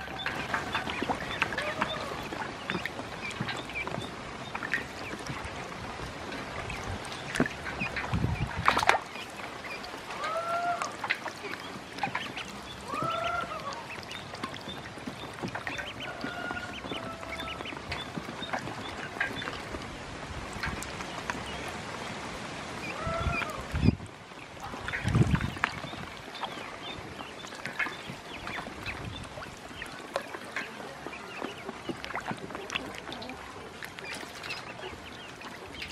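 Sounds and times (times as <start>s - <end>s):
ducklings peeping: 0.0s - 19.9s, 20.5s - 35.9s
splashing in water: 0.0s - 35.9s.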